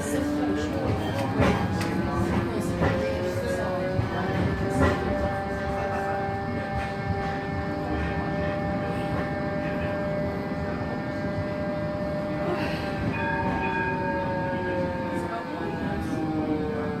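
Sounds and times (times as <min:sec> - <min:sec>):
electric traction drive whine: 0:00.0 - 0:17.0
tram wheels rumbling: 0:00.0 - 0:17.0.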